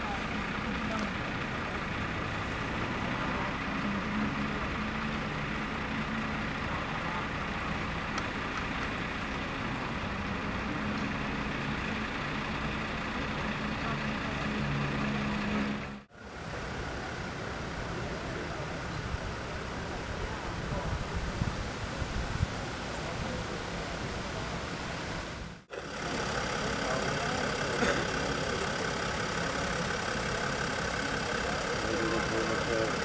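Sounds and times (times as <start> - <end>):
vehicle engines idling: 0.0 - 33.0.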